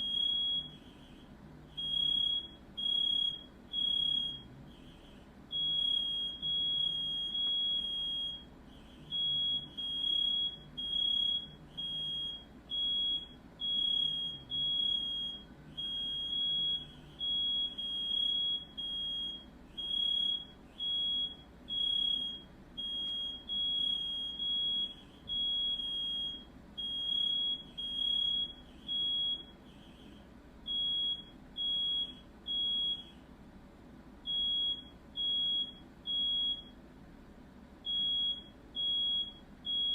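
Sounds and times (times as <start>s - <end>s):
smoke alarm beeping: 0.0s - 33.2s, 34.2s - 36.8s, 37.8s - 39.9s.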